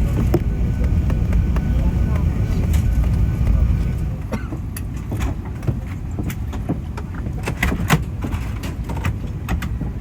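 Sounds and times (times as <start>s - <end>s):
aircraft cabin low rumble: 0.0s - 10.0s.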